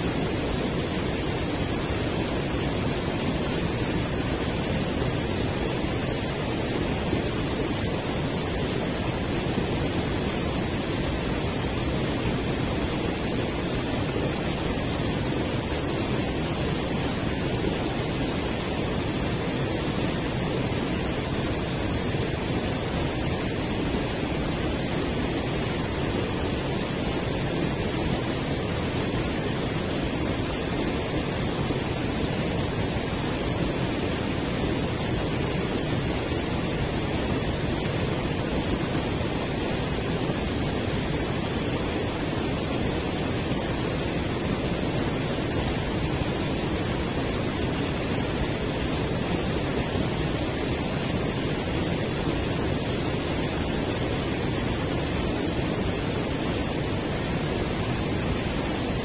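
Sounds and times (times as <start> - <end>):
water rushing over weir: 0.0 - 59.0.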